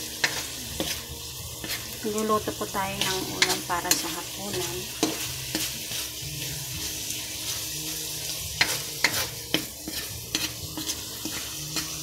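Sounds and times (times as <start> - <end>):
meat sizzling in a pan: 0.0 - 12.0
utensil scraping against pan: 0.0 - 12.0.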